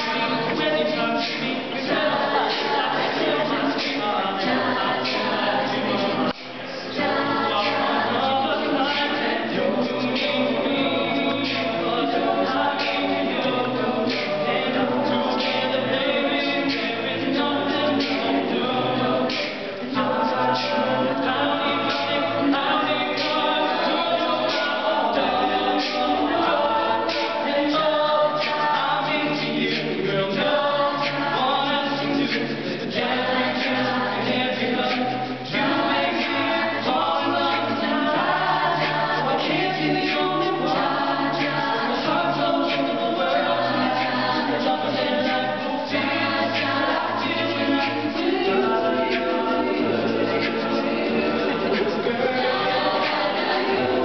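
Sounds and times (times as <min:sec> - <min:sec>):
a cappella group singing: 0:00.0 - 0:54.0.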